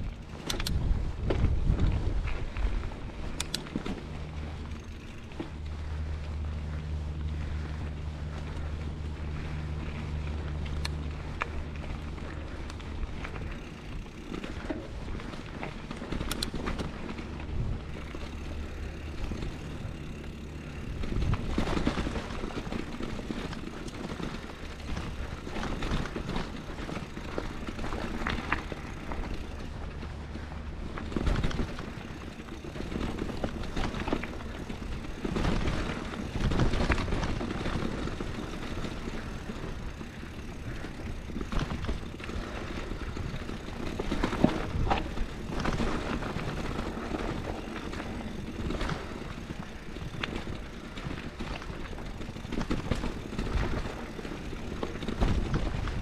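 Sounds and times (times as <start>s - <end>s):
bike rattling over rocks: 0.0s - 56.0s
bike tyres crunching on dirt: 0.0s - 56.0s.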